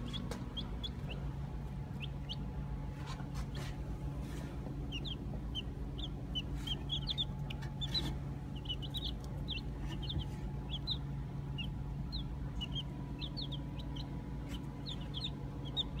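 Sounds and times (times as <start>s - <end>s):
baby chicks peeping: 0.0s - 16.0s
steady low hum: 0.0s - 16.0s.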